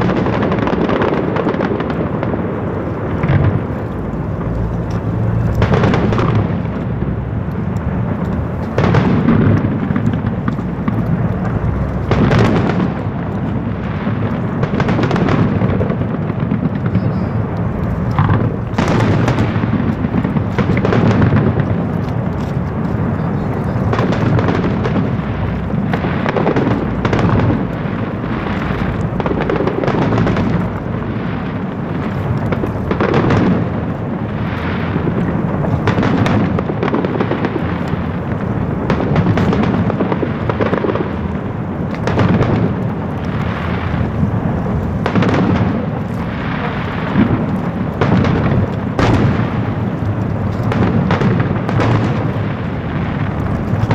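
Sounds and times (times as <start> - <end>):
constant low rumble: 0.0 - 53.9
fireworks bursts and booms: 0.0 - 53.9.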